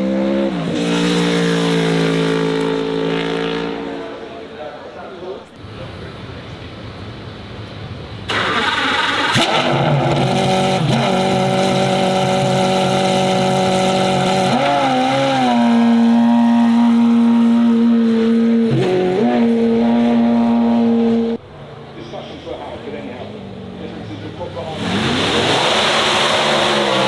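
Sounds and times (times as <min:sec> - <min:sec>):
car engine revving: 0:00.0 - 0:05.0, 0:08.2 - 0:22.0, 0:22.7 - 0:27.0.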